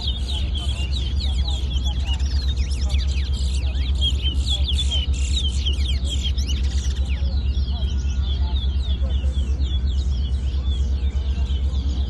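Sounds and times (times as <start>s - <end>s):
finch singing whistled chirps: 0.0s - 12.0s
steady low rumble: 0.0s - 12.0s.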